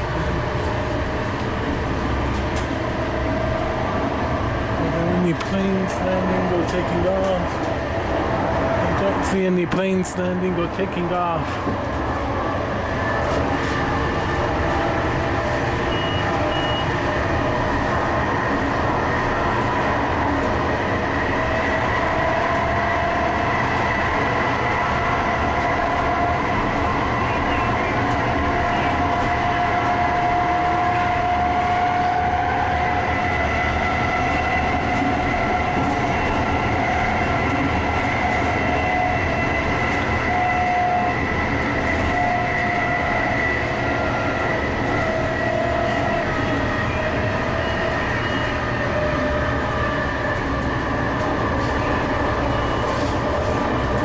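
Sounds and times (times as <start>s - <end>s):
high whine of running gear: 0.0s - 54.0s
light-rail train rumbling: 0.0s - 54.0s.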